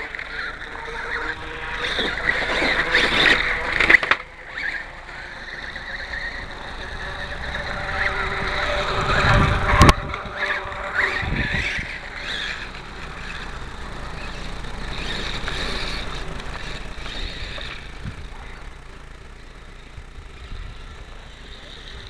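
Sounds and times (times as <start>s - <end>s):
rc motorcycle motor whining: 0.0s - 22.0s.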